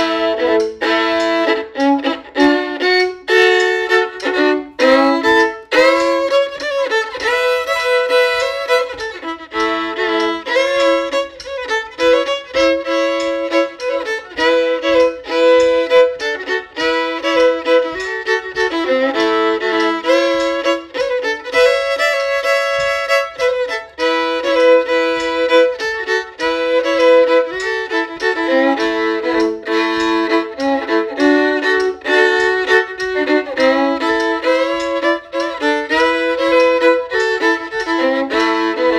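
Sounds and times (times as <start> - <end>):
solo fiddle tune: 0.0 - 38.9.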